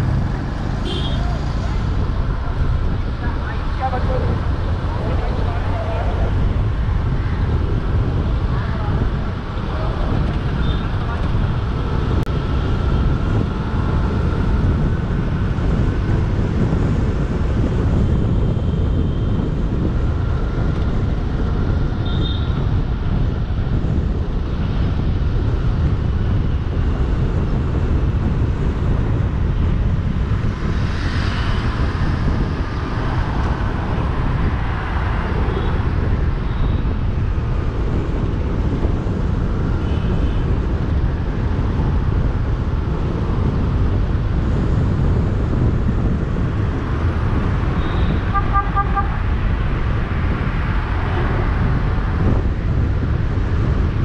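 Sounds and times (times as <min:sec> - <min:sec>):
car tyres and engine rumble: 0:00.0 - 0:54.0
other traffic passing: 0:00.0 - 0:54.0.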